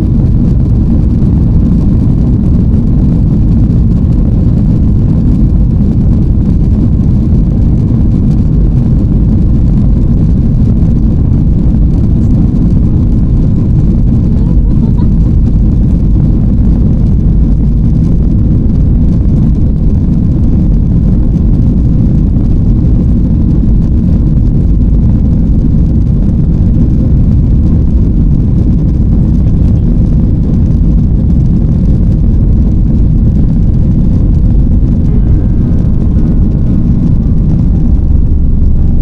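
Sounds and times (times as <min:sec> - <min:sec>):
jet cabin engine rumble: 0:00.0 - 0:39.0.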